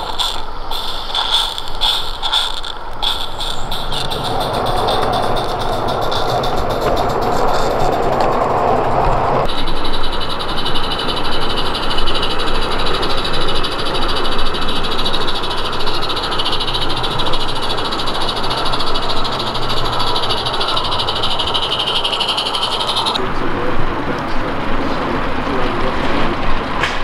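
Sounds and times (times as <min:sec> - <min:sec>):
steam hissing: 0:00.0 - 0:27.0
steam locomotive chuffing: 0:00.0 - 0:27.0.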